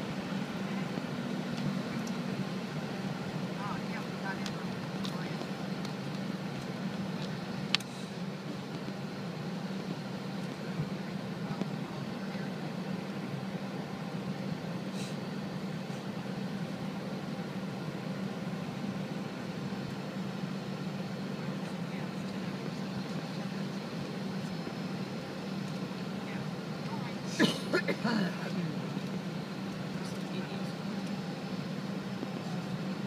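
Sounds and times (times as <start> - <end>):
aircraft cabin drone: 0.0 - 33.0.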